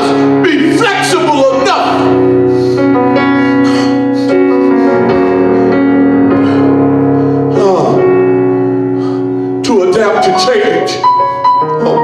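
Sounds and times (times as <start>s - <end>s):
keyboard playing held chords: 0.0s - 12.0s.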